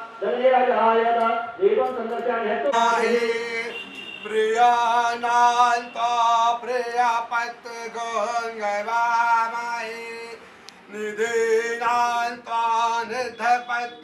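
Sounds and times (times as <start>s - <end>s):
man chanting: 0.1s - 14.0s.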